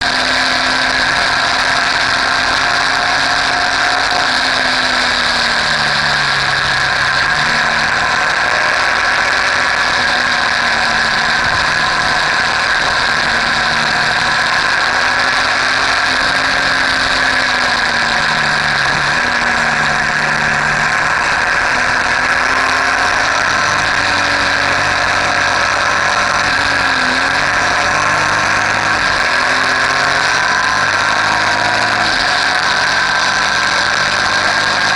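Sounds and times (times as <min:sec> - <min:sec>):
motorcycle engine running: 0:00.0 - 0:34.9
steady rushing noise: 0:00.0 - 0:34.9.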